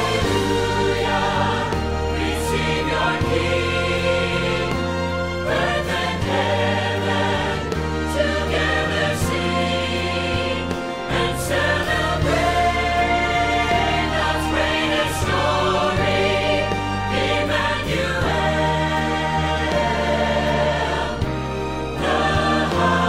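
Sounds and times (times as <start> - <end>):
choir singing: 0.0 - 23.0
instrumental accompaniment: 0.0 - 23.0.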